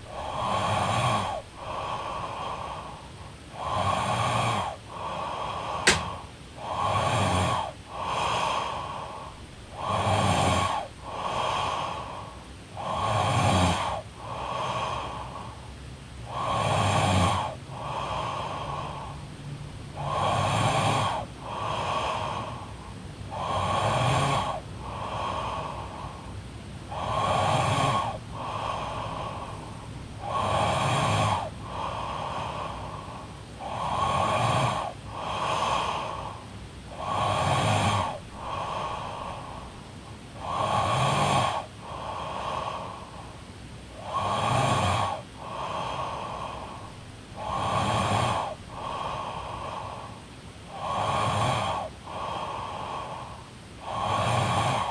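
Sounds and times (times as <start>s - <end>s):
woman snoring: 0.0s - 15.5s, 16.3s - 26.3s, 26.9s - 43.3s, 44.0s - 54.9s.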